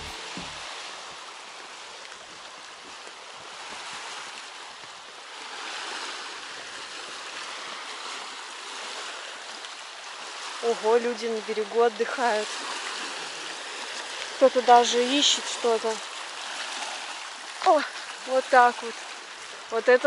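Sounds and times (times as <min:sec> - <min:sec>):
waves washing onto stony shore: 0:00.0 - 0:20.0.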